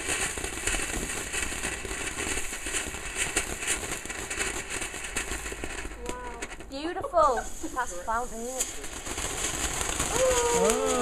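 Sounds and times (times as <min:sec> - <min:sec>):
fine crackling: 0:00.0 - 0:11.0
firework fountain hissing: 0:00.0 - 0:11.0.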